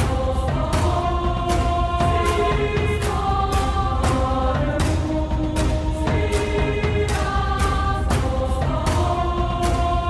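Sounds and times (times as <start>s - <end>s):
choir-like voices over beat: 0.0s - 10.0s.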